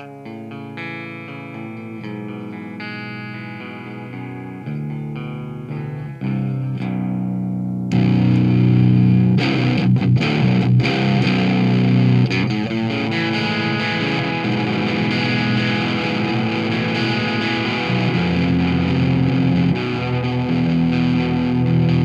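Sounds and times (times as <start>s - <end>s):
electric guitar chords and notes: 0.0s - 22.0s.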